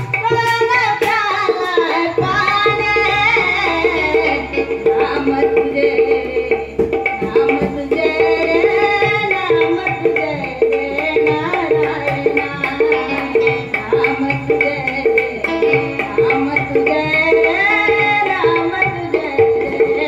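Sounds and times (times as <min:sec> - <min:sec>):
tabla rhythm: 0:00.0 - 0:20.0.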